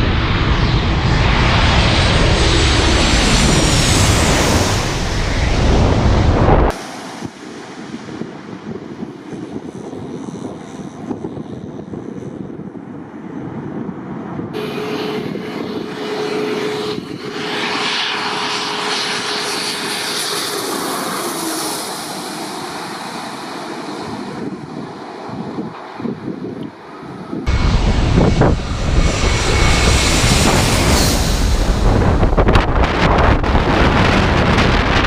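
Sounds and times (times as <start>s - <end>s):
wind noise on microphone: 0.0s - 22.7s, 23.4s - 35.0s
jet engines roaring: 0.0s - 35.0s.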